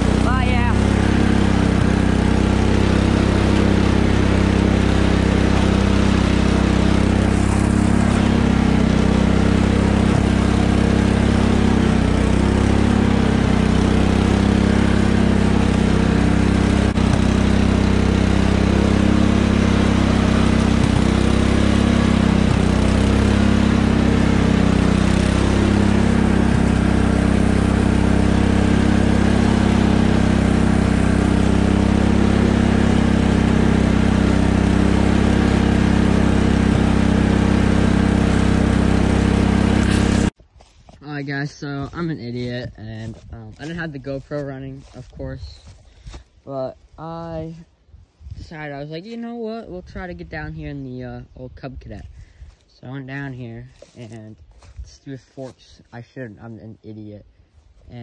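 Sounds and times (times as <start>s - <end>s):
lawn tractor engine running: 0.0s - 47.6s.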